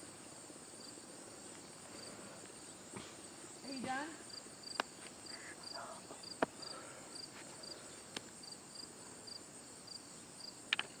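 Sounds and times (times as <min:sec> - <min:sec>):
crickets chirping: 0:00.0 - 0:11.0
high insect hum: 0:00.0 - 0:11.0.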